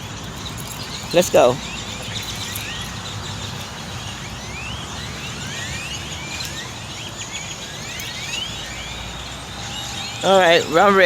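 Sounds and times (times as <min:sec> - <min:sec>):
flock of birds chirping: 0:00.0 - 0:11.0.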